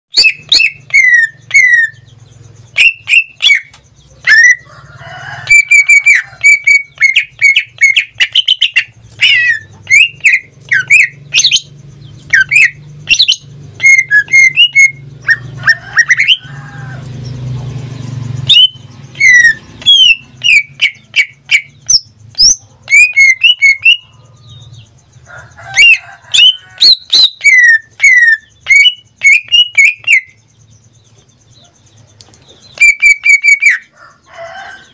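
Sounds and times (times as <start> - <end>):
bird singing whistled notes: 0.1 - 4.6, 5.5 - 16.5, 17.2 - 25.2, 25.8 - 33.9.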